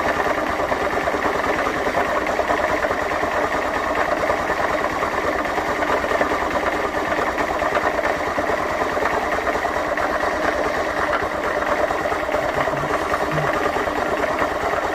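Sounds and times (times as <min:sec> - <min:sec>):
motorcycle engine ticking clatter: 0:00.0 - 0:14.9.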